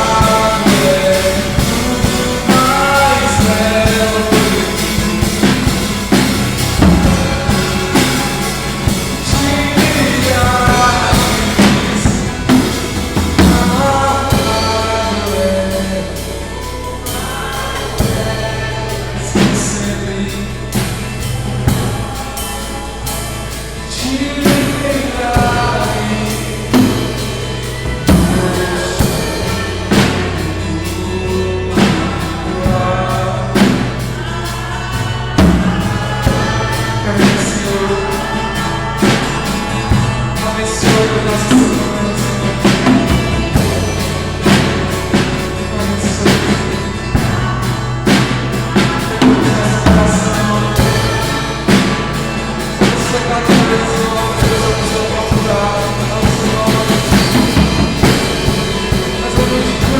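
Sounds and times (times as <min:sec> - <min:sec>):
acoustic guitar: 0:00.0 - 0:59.9
drum kit and cymbals: 0:00.0 - 0:59.9
man singing: 0:00.0 - 0:59.9.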